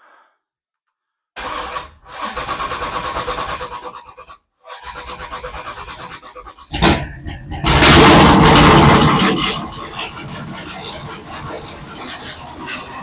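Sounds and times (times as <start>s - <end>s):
race car engine starting: 1.4s - 13.0s.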